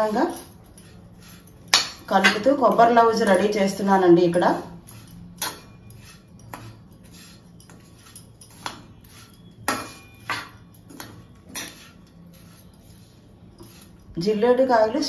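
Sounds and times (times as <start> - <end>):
metal spoon scraping a pan: 0.0 - 14.7
spoon clinking against pan: 0.3 - 12.9.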